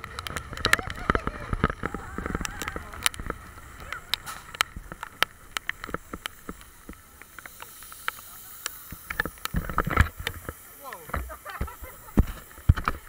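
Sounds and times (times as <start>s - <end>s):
raindrops ticking on camera: 0.0s - 13.0s
steady hiss: 0.0s - 13.0s.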